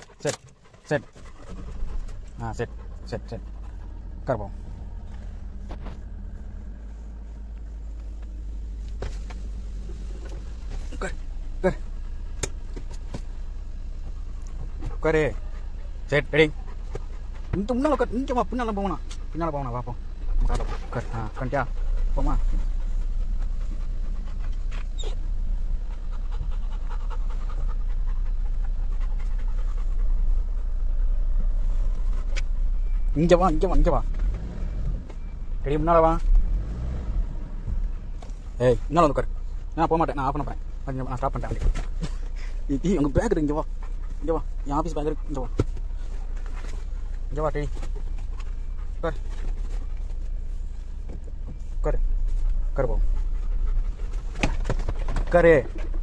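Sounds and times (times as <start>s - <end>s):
dog panting: 0.0s - 36.9s, 37.5s - 56.0s
car engine idling: 0.0s - 56.0s.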